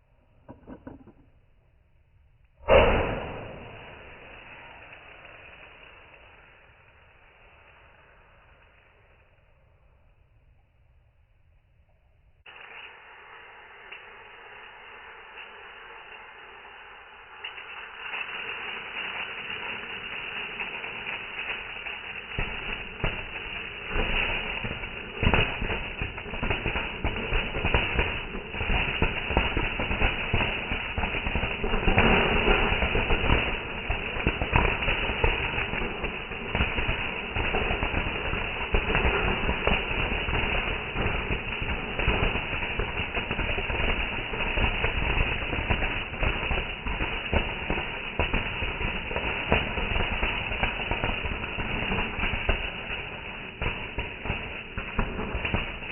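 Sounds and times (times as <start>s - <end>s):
fireworks crackling and banging: 0.0s - 1.5s, 2.5s - 9.1s, 12.4s - 55.9s.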